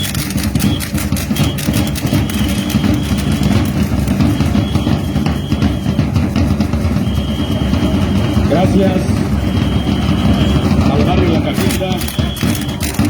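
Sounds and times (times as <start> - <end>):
drums beating: 0.0 - 13.0.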